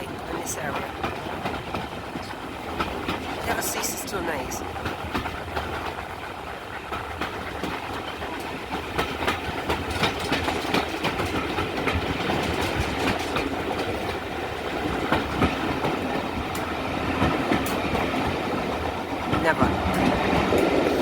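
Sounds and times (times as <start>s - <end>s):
train rumbling on rails: 0.0s - 21.0s
wheels clicking over rail joints: 0.0s - 21.0s.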